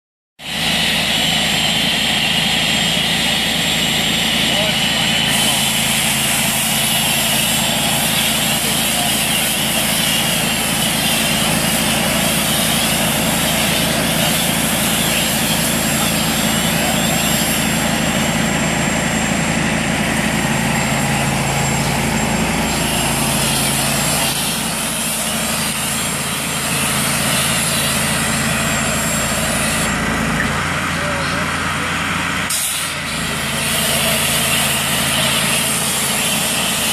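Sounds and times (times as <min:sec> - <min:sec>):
pressure washer motor drone: 0:00.4 - 0:36.9.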